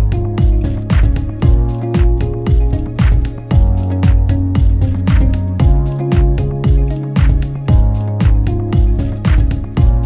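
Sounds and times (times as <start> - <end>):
hi-hats: 0.0 - 10.0
kick drum beat: 0.0 - 10.0
sustained synth chords: 0.0 - 10.0.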